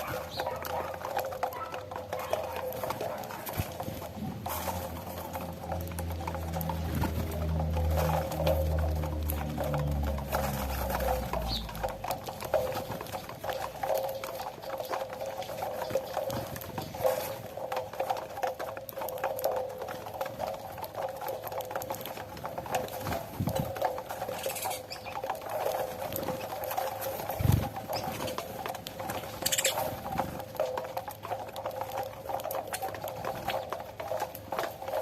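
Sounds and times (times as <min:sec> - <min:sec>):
birds pecking at corn: 0:00.0 - 0:35.0.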